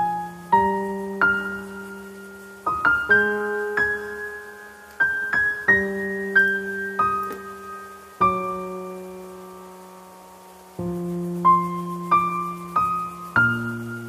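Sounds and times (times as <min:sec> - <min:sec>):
slow gentle piano: 0:00.0 - 0:14.0.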